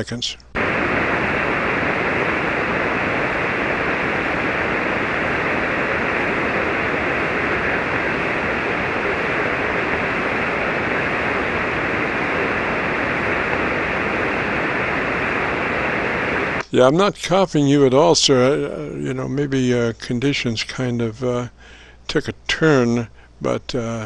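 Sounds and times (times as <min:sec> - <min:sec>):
radio receiver static hiss: 0:00.0 - 0:24.0.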